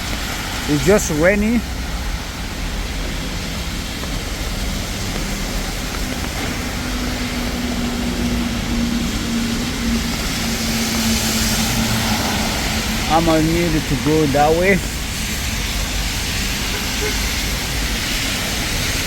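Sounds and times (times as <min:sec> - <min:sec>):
heavy rain on street: 0:00.0 - 0:19.0
vehicle engine humming: 0:00.0 - 0:19.0.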